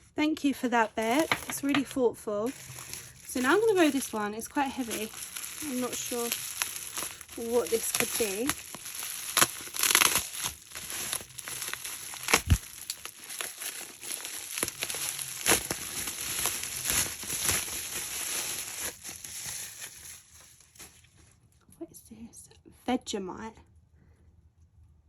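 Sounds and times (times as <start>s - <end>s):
wrapping crinkling and rustling: 0.6s - 21.4s.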